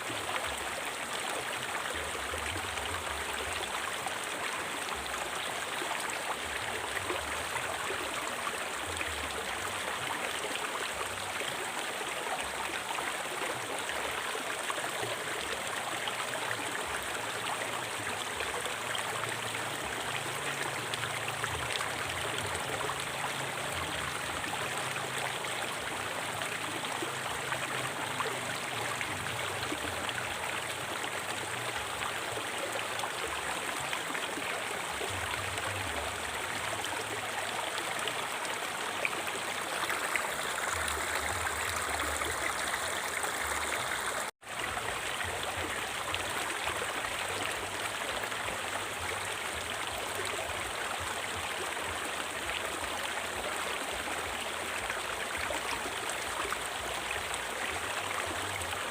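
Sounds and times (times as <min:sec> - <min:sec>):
stream flowing over rocks: 0:00.0 - 0:58.9.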